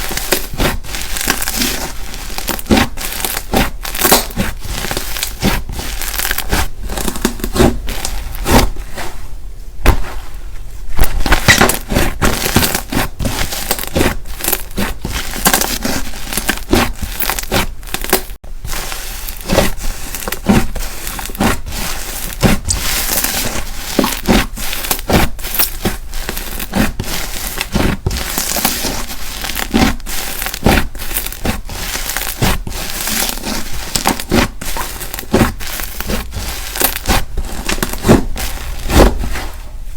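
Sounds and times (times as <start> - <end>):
slime crackling and popping: 0.0 - 8.7, 11.0 - 39.4.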